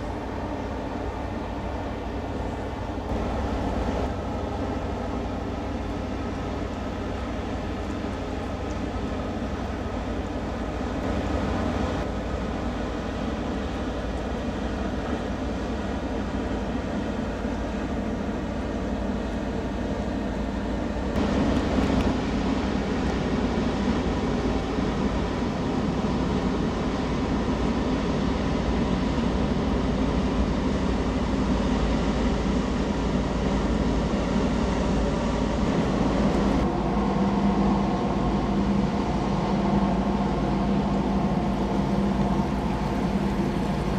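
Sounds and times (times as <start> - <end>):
ship engine drone: 0.0 - 43.9.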